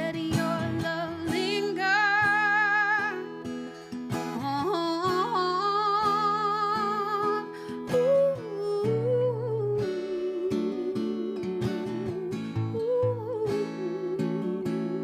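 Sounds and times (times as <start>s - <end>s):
woman singing wordless notes: 0.0s - 3.4s, 4.4s - 15.0s
strummed acoustic guitar: 0.0s - 15.0s.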